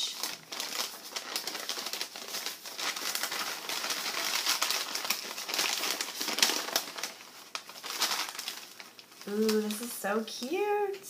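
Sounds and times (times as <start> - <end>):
paper envelope crinkling: 0.0 - 10.8.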